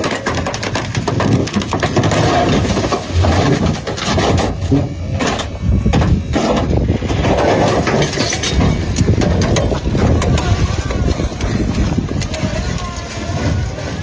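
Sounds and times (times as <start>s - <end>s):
knocking and clatter: 0.0s - 12.4s
truck motor running under load: 0.0s - 14.0s.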